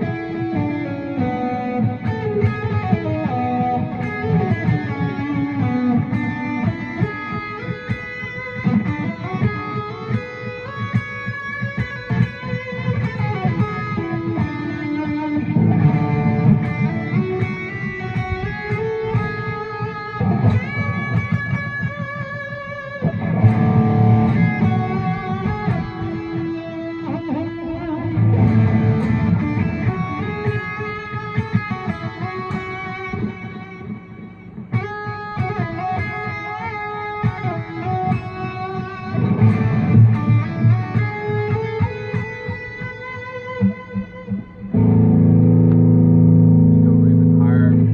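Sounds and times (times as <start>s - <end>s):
electric guitar melody: 0.0s - 47.9s
low guitar chords: 0.0s - 47.9s.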